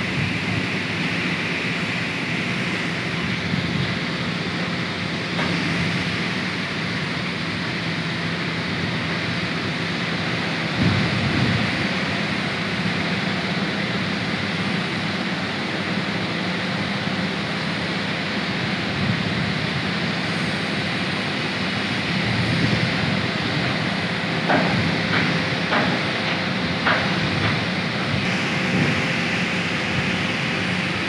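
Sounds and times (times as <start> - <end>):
crane mechanical drone and hiss: 0.0 - 31.0.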